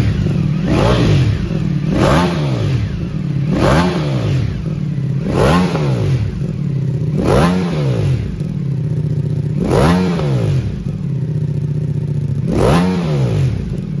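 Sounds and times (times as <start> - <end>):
motorcycle engine idling: 0.0 - 14.0
motorcycle throttle blips: 0.0 - 14.0.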